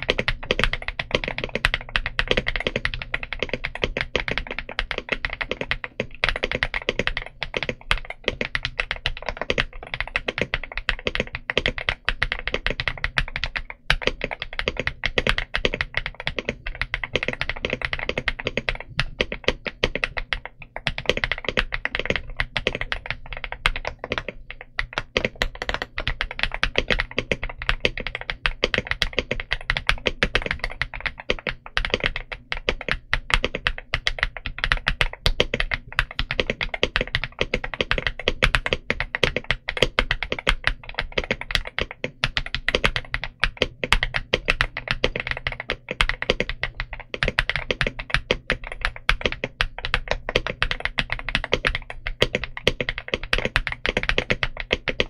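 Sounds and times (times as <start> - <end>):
fast mechanical keyboard typing: 0.0 - 55.0.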